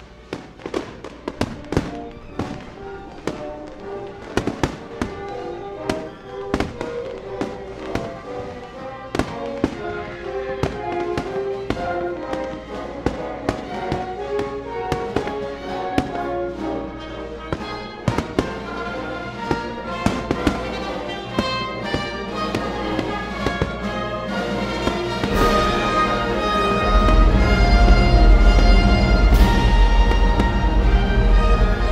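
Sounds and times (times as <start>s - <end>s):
fireworks bangs and cracks: 0.0s - 16.8s, 17.4s - 31.9s
background music with held notes: 0.0s - 31.9s.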